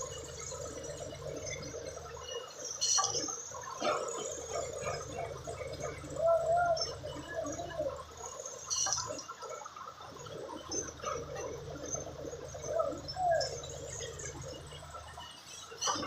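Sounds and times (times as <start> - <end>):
low machine hum: 0.0 - 9.2, 10.0 - 16.0
water gurgling and splashing: 0.0 - 16.0.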